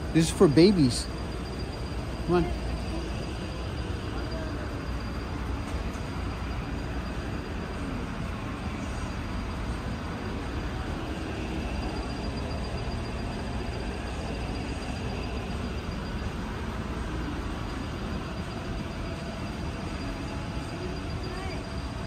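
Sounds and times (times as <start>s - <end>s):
low rumbling store interior: 0.0s - 22.0s.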